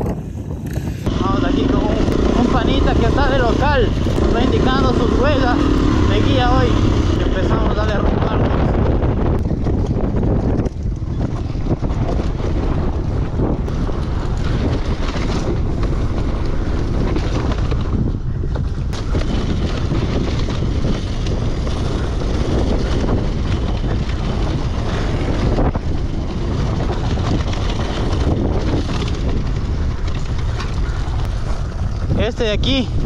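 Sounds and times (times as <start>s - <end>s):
dirt bike engine running: 0.0s - 33.0s
wind rumble on microphone: 0.0s - 33.0s.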